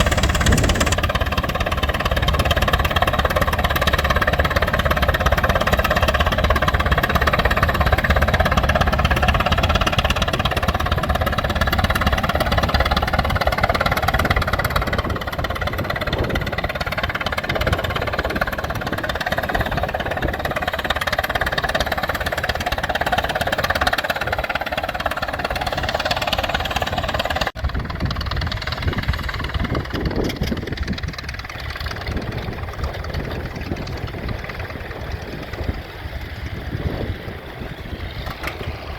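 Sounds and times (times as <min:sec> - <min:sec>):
old engine droning: 0:00.0 - 0:38.9
quieter engine running: 0:00.0 - 0:38.9.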